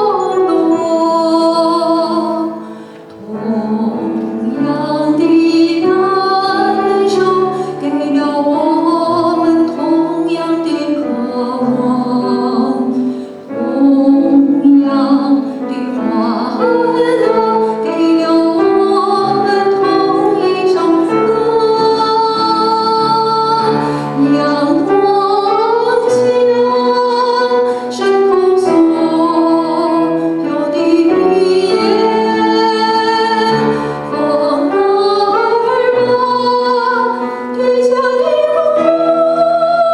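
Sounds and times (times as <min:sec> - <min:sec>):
instrumental accompaniment: 0:00.0 - 0:39.9
woman singing with vibrato: 0:00.0 - 0:39.9.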